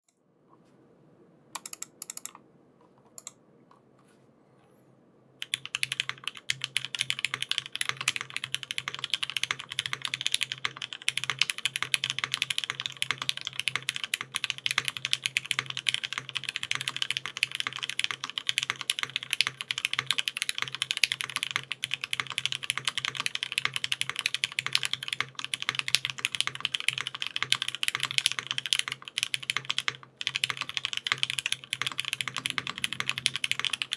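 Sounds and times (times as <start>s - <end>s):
mechanical keyboard typing: 1.6s - 2.4s, 5.4s - 33.9s.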